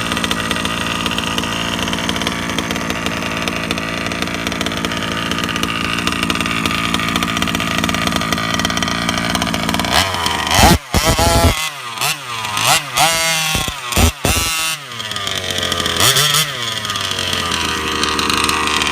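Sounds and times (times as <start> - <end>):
two-stroke engine revving: 0.0 - 18.9.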